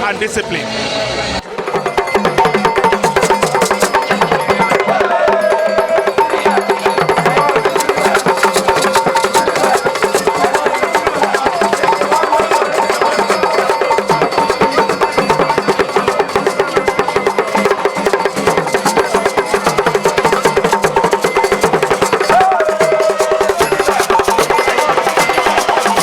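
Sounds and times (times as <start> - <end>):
wavering melody: 0.0 - 26.0
wood block clicks and drums: 1.5 - 26.0.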